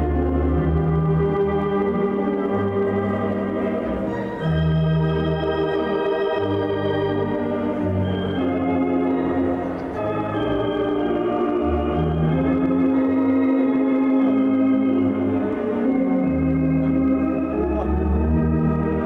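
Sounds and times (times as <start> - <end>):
theatre organ playing dance music: 0.0 - 19.0.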